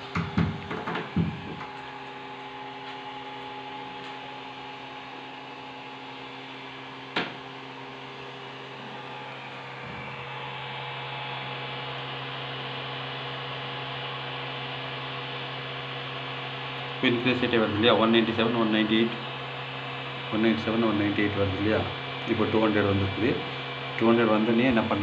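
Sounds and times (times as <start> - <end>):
printer fans humming and hissing: 0.0 - 25.0.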